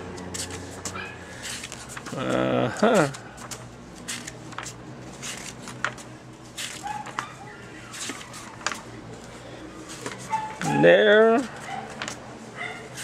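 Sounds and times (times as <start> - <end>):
paper pages turning: 0.2 - 10.8, 11.4 - 12.2.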